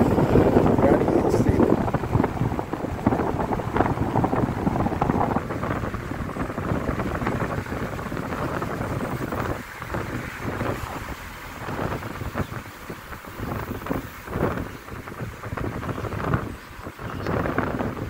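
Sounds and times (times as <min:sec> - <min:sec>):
vehicle road noise: 0:00.0 - 0:18.0
wind buffeting microphone: 0:00.0 - 0:18.0.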